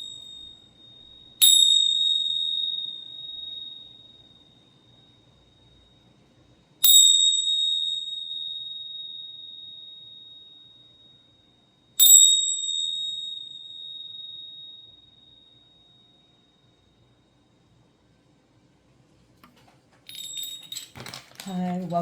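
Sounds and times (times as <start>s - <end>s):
small metal bell ringing: 0.0s - 6.0s, 6.8s - 17.2s, 20.0s - 22.0s.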